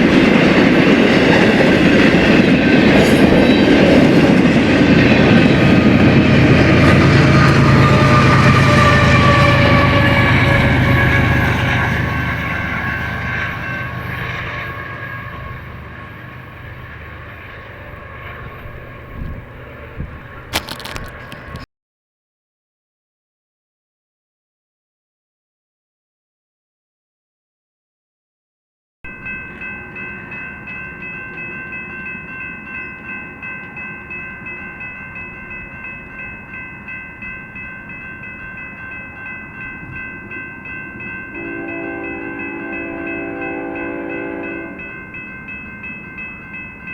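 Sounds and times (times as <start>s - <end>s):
railroad crossing bell ringing: 0.0s - 21.6s, 29.1s - 46.9s
freight train rumble: 0.0s - 21.7s, 29.1s - 46.9s.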